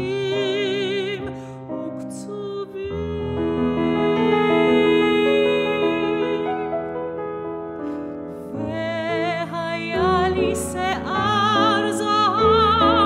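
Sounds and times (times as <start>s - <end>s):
soprano singing with vibrato: 0.0s - 6.8s, 8.6s - 13.0s
grand piano playing: 0.0s - 13.0s.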